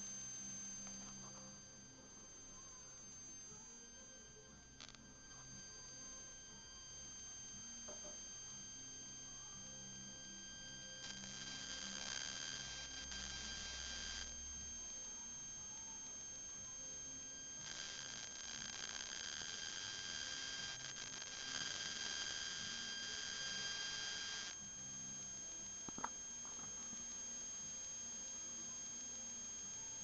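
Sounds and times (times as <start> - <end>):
ion generator high-pitched whine: 0.0 - 30.0.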